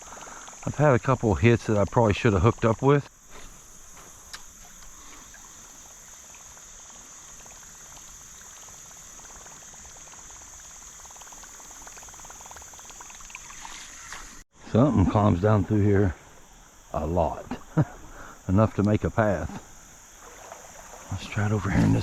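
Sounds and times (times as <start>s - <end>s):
faint hiss: 0.0s - 22.0s
insects trilling: 0.0s - 22.0s.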